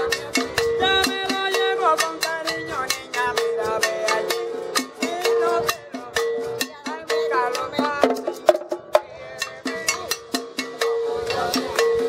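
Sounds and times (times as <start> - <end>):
hand drums: 0.0 - 12.0
man singing: 0.0 - 12.0
maracas: 0.0 - 12.0
sharp percussion strokes: 0.0 - 12.0.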